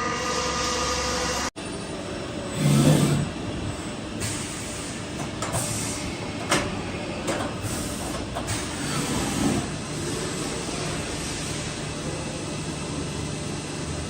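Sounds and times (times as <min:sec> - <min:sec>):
machining centre hiss and hum: 0:00.0 - 0:14.0.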